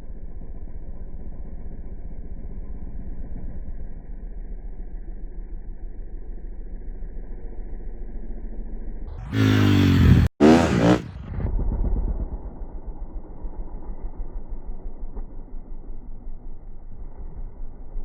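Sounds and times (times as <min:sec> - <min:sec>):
vehicle engine running and revving: 0:00.3 - 0:18.0.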